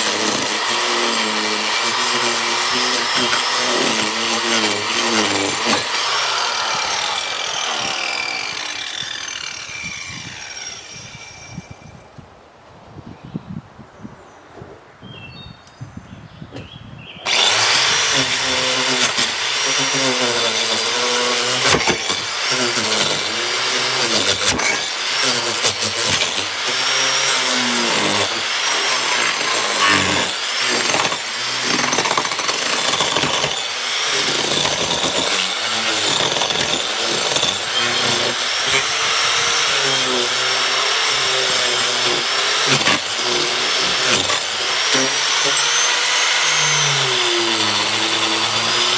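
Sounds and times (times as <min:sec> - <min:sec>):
power tool cutting wood: 0:00.0 - 0:12.0, 0:17.2 - 0:48.9.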